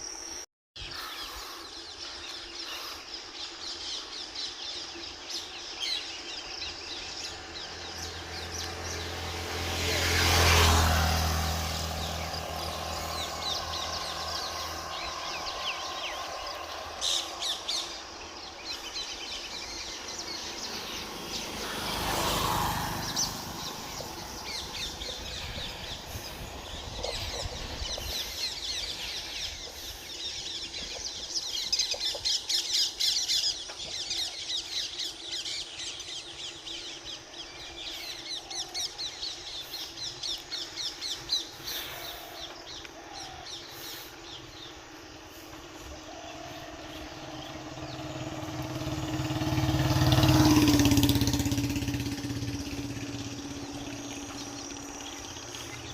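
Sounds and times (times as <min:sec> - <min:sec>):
birds chirping: 0:00.0 - 0:55.9
vehicle engine approaching: 0:03.7 - 0:42.8, 0:43.7 - 0:55.9.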